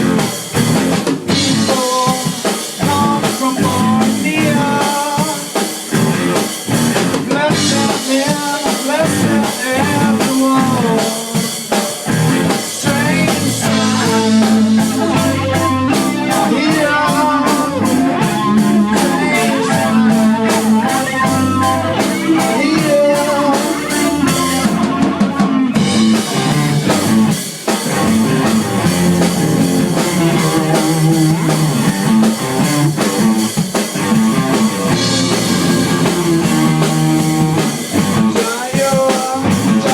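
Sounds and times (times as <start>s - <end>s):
drum kit beat: 0.0s - 39.9s
electric guitar: 0.0s - 39.9s.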